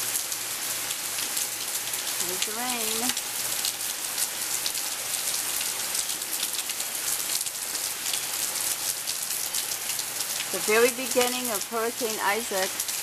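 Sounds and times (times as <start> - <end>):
rain pattering on surfaces: 0.0 - 13.0.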